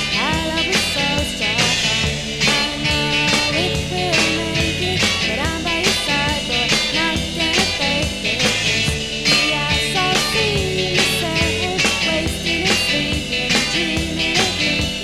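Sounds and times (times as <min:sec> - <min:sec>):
indie pop band playing: 0:00.0 - 0:15.0.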